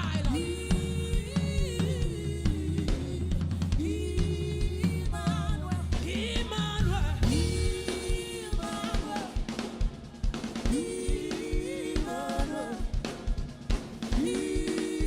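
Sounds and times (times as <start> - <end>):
drum kit beat: 0.0 - 15.0.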